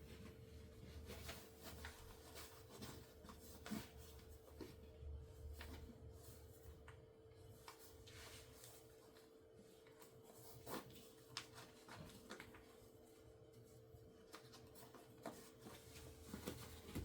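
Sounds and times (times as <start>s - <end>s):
soft clicks and rustles: 0.0s - 17.0s.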